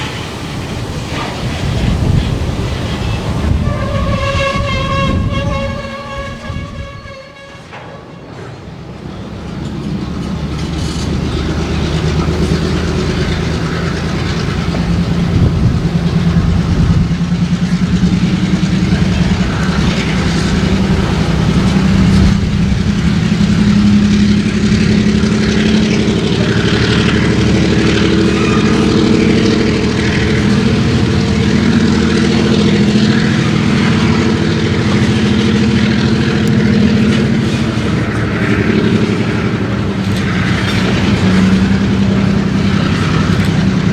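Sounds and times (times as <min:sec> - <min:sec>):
diesel locomotive engine: 0:00.0 - 0:43.9
wheels rumbling on rail: 0:00.0 - 0:43.9.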